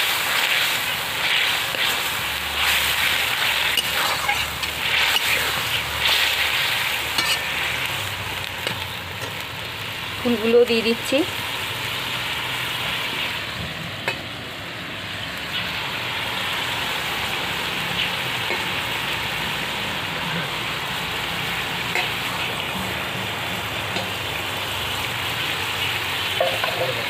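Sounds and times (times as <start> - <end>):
food sizzling in a pan: 0.0 - 27.0.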